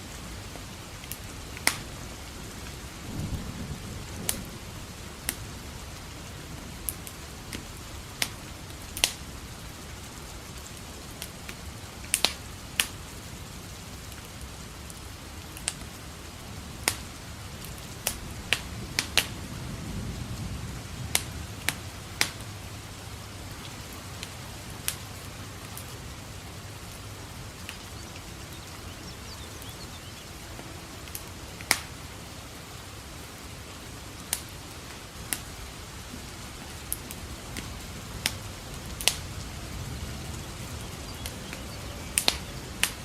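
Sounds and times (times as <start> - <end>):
rain hiss: 0.0 - 43.0
wood fire crackling: 0.0 - 43.0.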